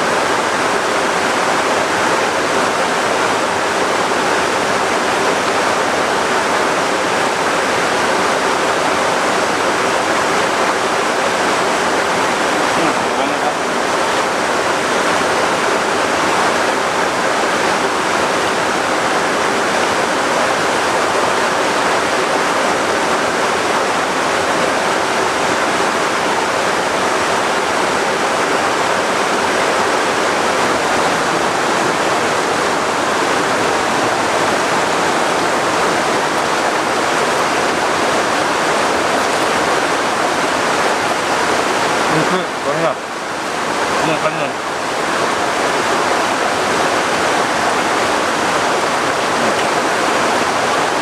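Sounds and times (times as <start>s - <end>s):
rushing water: 0.0s - 51.0s.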